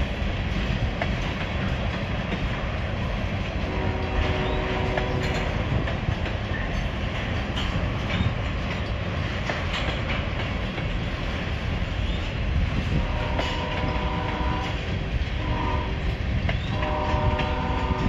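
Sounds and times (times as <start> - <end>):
train wheels rumbling on rail: 0.0 - 18.0
wheels clicking over rail joints: 0.0 - 18.0.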